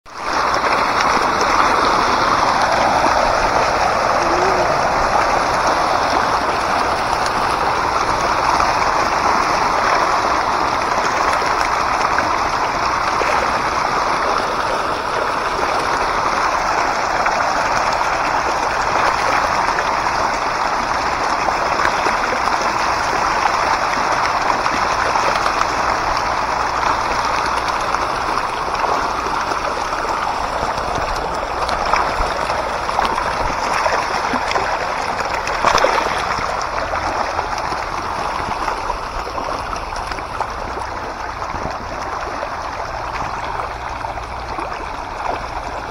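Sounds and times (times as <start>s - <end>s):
fish splashing at water surface: 0.2s - 45.9s.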